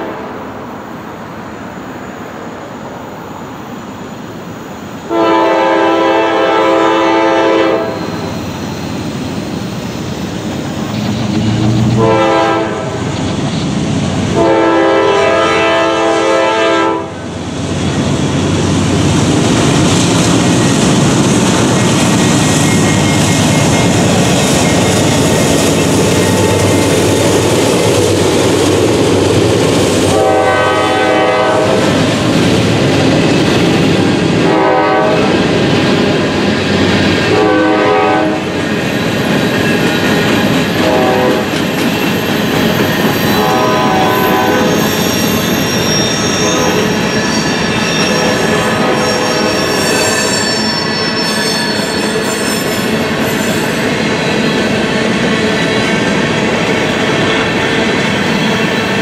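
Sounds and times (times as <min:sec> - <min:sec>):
diesel locomotive engines: 0:00.0 - 0:59.0.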